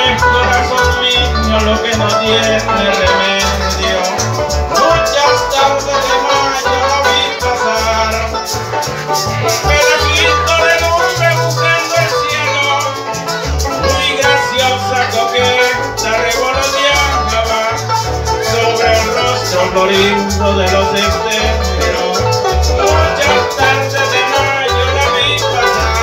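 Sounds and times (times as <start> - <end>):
electric bass line: 0.0 - 26.0
maracas shaking: 0.0 - 26.0
plucked harp runs: 0.0 - 26.0
strummed cuatro: 0.0 - 26.0.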